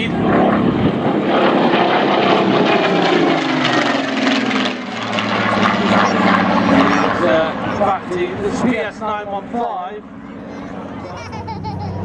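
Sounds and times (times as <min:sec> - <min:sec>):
propeller aircraft engine flying past: 0:00.0 - 0:12.0.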